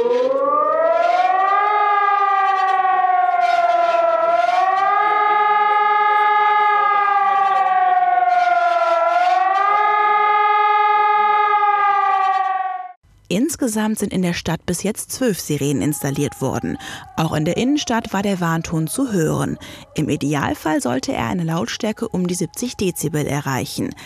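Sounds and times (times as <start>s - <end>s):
civil defence siren wailing: 0.0s - 13.0s, 15.5s - 24.0s.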